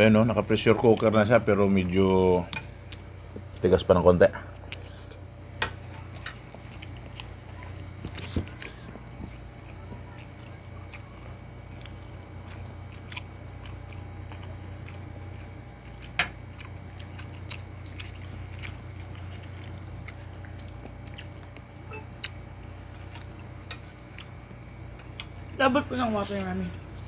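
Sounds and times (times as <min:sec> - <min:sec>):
low hum: 0:00.0 - 0:27.0
people chewing with lip smacks: 0:02.4 - 0:03.8, 0:04.5 - 0:27.0.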